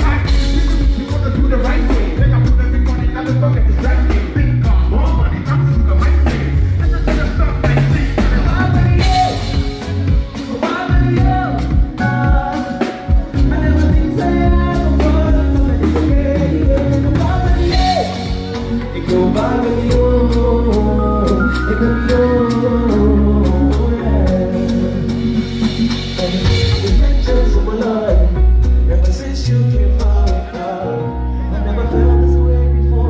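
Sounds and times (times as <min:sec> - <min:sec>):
band playing: 0:00.0 - 0:33.0
heavy bass line: 0:00.0 - 0:33.0
person singing: 0:00.0 - 0:33.0.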